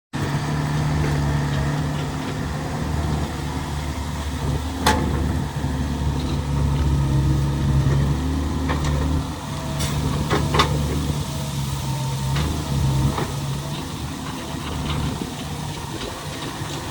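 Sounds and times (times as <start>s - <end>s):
excavator diesel engine running: 0.1s - 16.9s.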